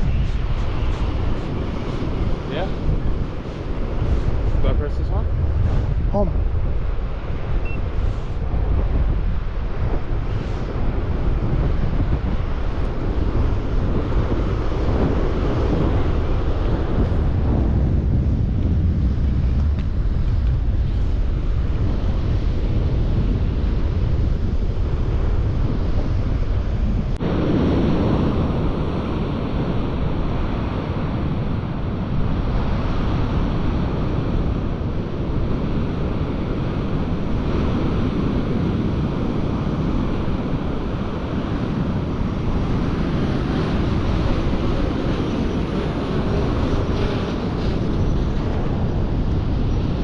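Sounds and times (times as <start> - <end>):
surf breaking on beach: 0.0 - 50.0
wind buffeting microphone: 0.0 - 50.0.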